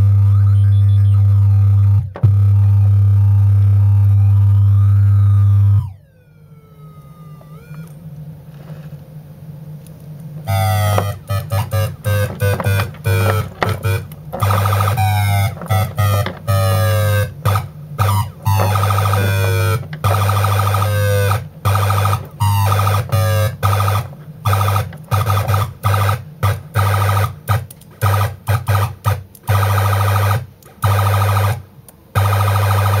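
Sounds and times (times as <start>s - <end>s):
electronic siren and alarm tones: 0.0s - 8.0s, 10.4s - 31.6s, 32.2s - 33.0s
loud low hum: 0.0s - 28.6s.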